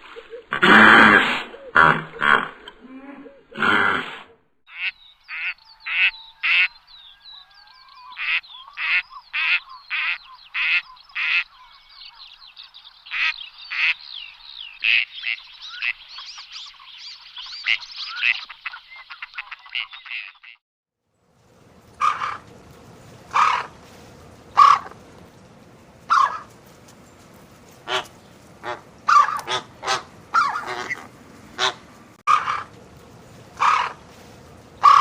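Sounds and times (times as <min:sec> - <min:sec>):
birds honking calls: 0:04.7 - 0:20.6, 0:21.8 - 0:25.2, 0:26.0 - 0:35.0.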